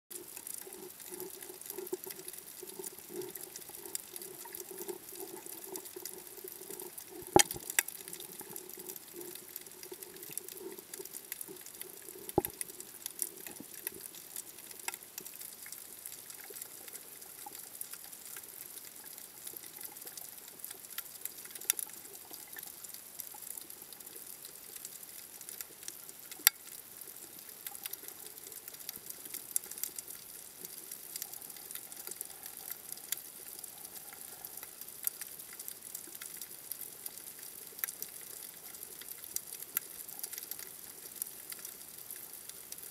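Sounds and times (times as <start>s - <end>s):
reef crackling and clicks: 0.1s - 42.9s.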